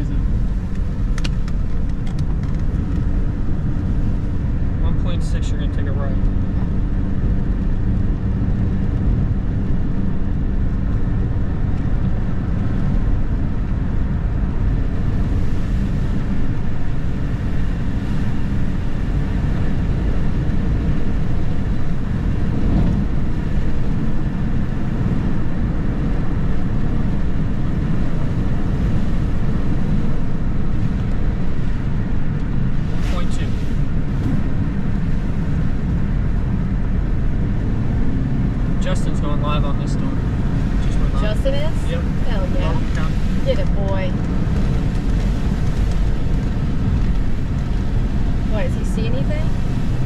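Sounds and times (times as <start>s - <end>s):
car engine drone: 0.0s - 50.0s
car road noise: 0.0s - 50.0s.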